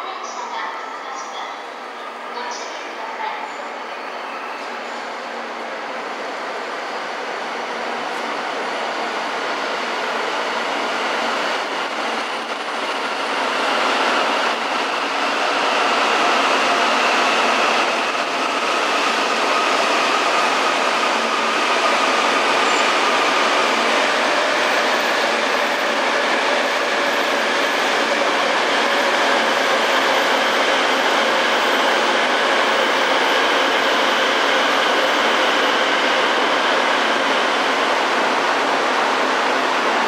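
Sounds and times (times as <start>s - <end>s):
train rushing noise: 0.0s - 40.0s
train whining tones: 6.3s - 38.9s.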